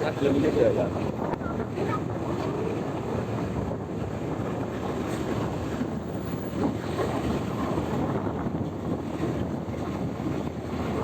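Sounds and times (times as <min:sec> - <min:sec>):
bus engine rumble: 0:00.0 - 0:11.0
wind buffeting microphone: 0:00.0 - 0:11.0.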